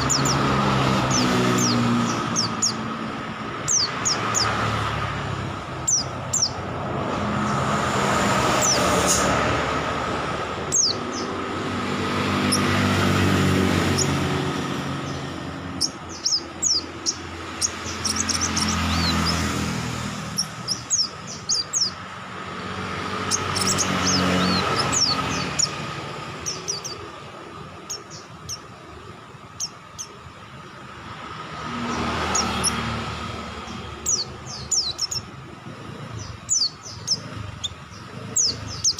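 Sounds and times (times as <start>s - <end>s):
birds chirping high notes: 0.0s - 30.2s, 31.6s - 38.9s
vehicles passing: 0.0s - 38.9s.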